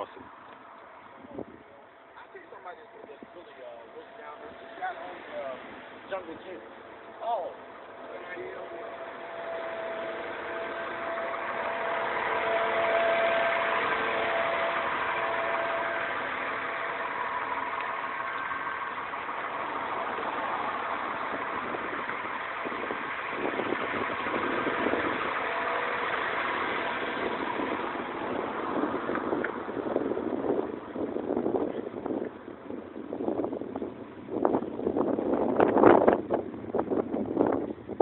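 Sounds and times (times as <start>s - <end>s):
bus engine idling: 0.0s - 38.0s.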